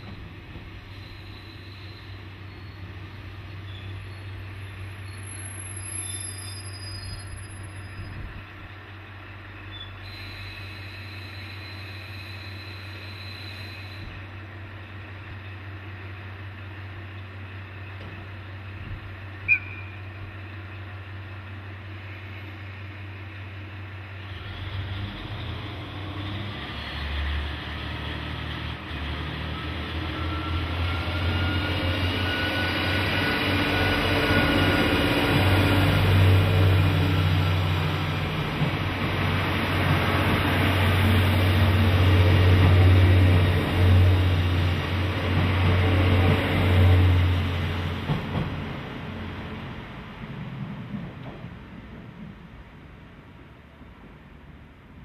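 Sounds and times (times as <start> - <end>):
diesel train engine: 0.0 - 55.0.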